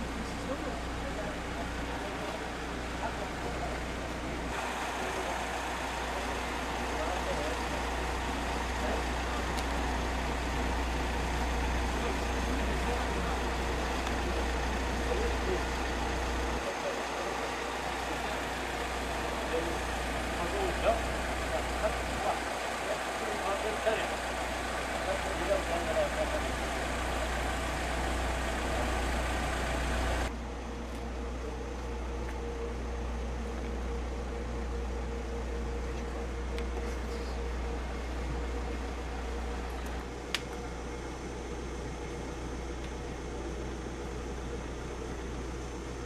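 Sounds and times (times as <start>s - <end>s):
faint steady hum: 0.0s - 46.0s
low rumble with hiss: 0.0s - 46.0s
vehicle engine idling: 0.0s - 46.0s.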